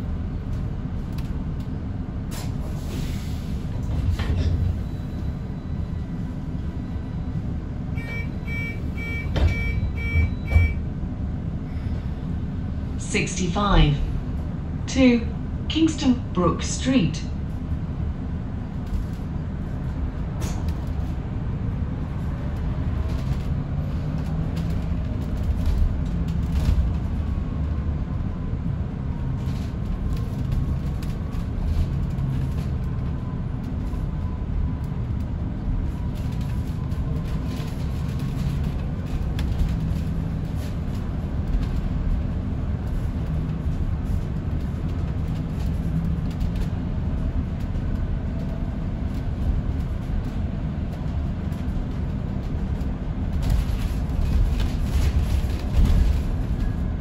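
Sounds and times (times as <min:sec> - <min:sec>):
bus road and tyre rumble: 0:00.0 - 0:57.0.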